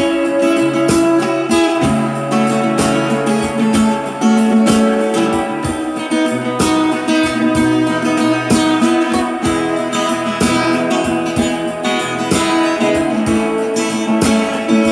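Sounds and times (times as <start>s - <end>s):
plucked guitar music: 0.0s - 14.9s.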